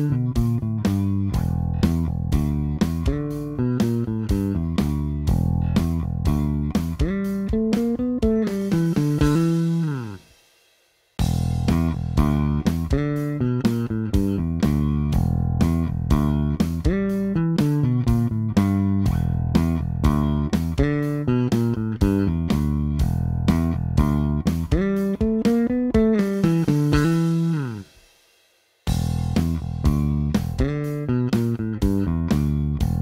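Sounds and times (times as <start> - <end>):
electric bass played fingerstyle: 0.0 - 10.4, 11.2 - 28.1, 28.8 - 33.0.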